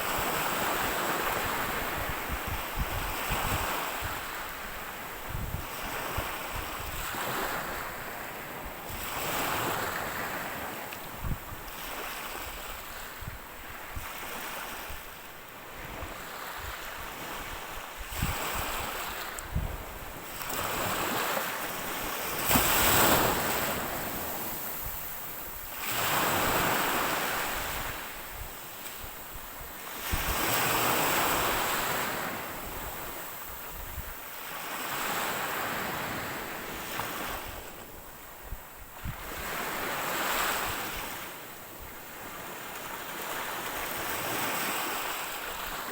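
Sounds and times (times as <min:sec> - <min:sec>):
waves breaking on shore: 0:00.0 - 0:45.9.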